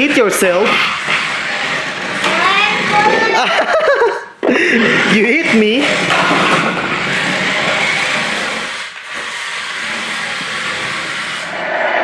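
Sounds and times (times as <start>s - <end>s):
toy car motor whirring: 0.1s - 4.0s, 4.9s - 11.6s.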